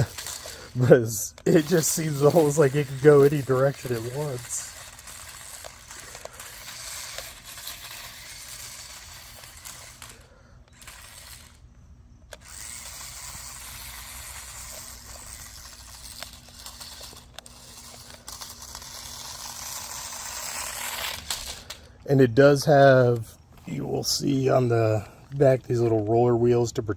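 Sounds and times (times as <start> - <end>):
toy car motor rattle: 0.0 - 26.4.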